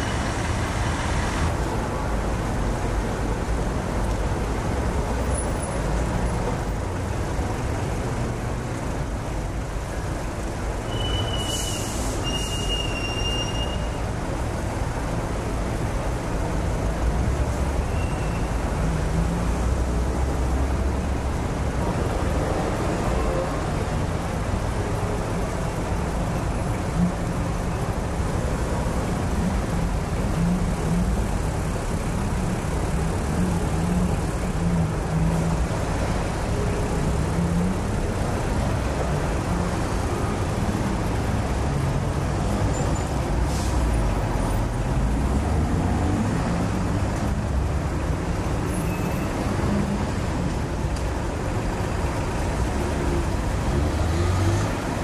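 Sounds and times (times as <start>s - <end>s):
idling car and lorry engines: 0.0s - 55.0s.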